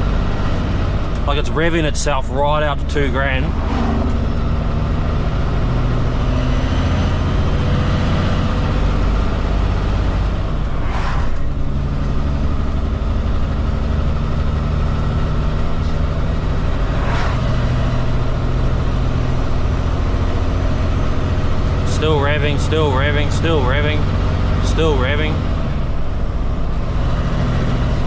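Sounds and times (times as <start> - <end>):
diesel truck engine accelerating: 0.0 - 28.0.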